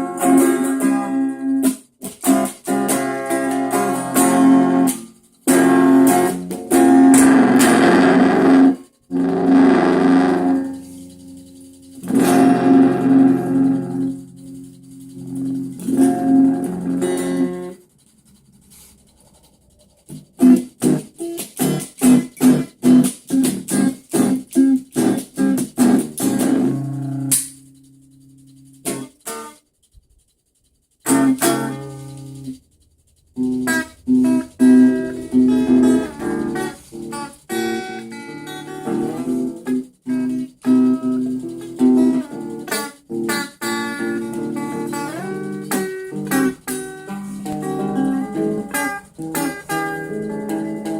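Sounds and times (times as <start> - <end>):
guitar strumming and picking: 0.0 - 17.9, 20.1 - 29.6, 31.0 - 32.6, 33.4 - 50.9.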